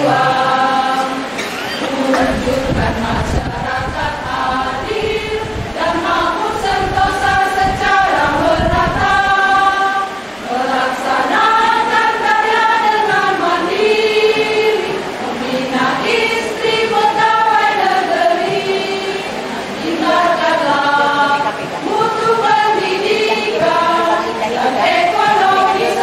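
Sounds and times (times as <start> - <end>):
women's choir singing: 0.0 - 26.0.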